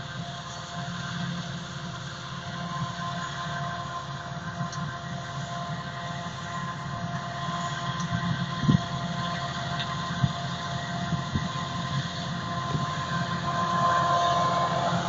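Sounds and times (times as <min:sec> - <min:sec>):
forage harvester drone and whine: 0:00.0 - 0:15.0.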